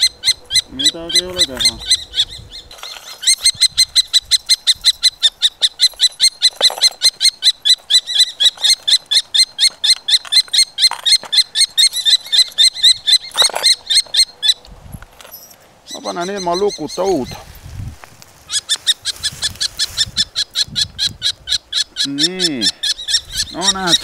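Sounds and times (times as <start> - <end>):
bird chicks calling shrilly: 0.0 - 17.5, 18.4 - 24.0.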